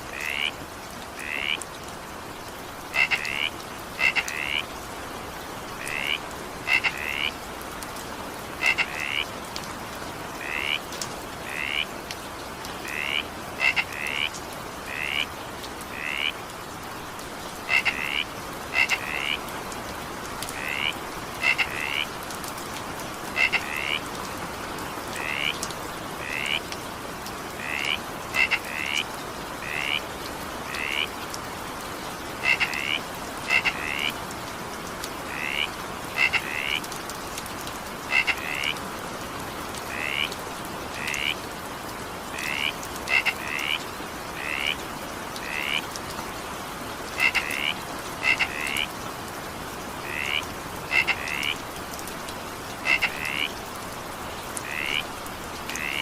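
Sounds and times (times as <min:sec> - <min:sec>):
frogs croaking: 0:00.0 - 0:01.8, 0:02.5 - 0:07.6, 0:08.3 - 0:26.8, 0:27.4 - 0:39.0, 0:39.7 - 0:41.6, 0:42.2 - 0:56.0.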